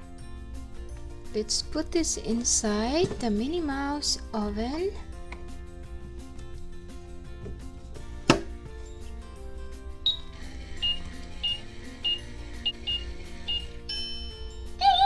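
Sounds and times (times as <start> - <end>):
children's background music: 0.0 - 15.0.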